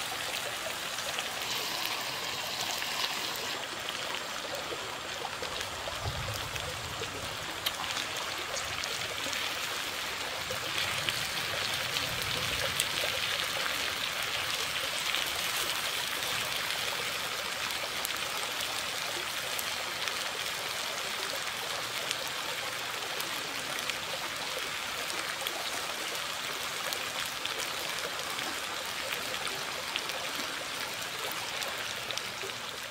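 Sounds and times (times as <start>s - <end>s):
stream water flowing: 0.0s - 32.9s.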